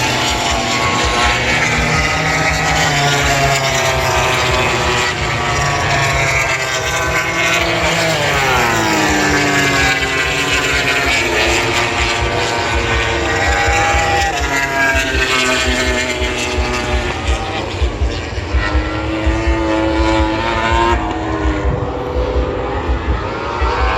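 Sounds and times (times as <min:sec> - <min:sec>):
motorcycle passing by: 0:00.0 - 0:23.9
racing motorcycles at full throttle: 0:00.0 - 0:23.9.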